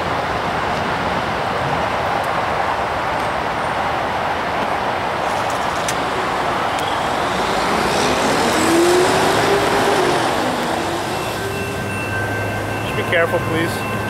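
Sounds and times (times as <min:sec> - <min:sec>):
road traffic passing: 0:00.0 - 0:14.0
truck passing: 0:00.0 - 0:14.0.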